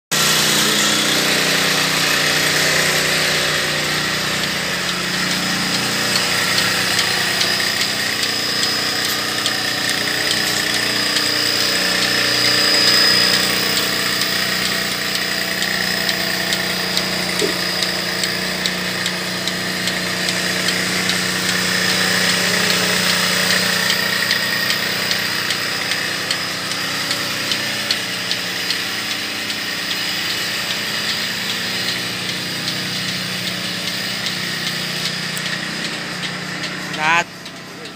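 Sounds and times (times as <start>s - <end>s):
milking machine engine droning: 0.1s - 37.9s
light regular ticking: 0.2s - 37.9s.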